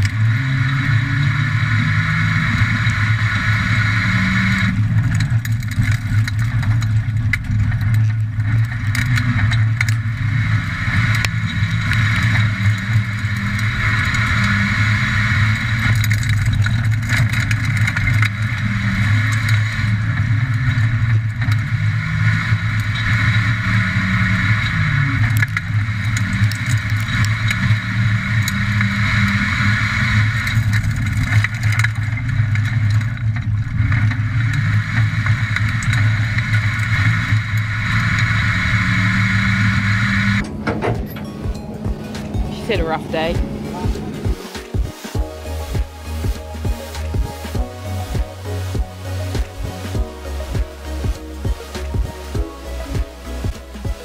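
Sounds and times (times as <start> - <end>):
car engine running under load: 0.0 - 54.0.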